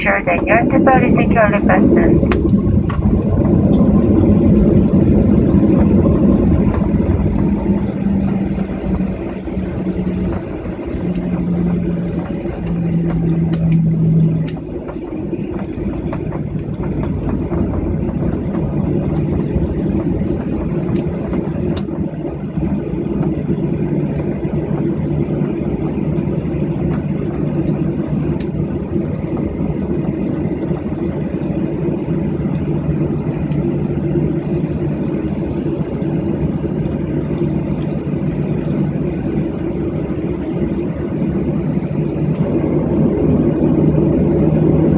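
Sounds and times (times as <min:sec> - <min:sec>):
jet engines in cabin: 0:00.0 - 0:44.9
low humming tone: 0:00.0 - 0:44.9.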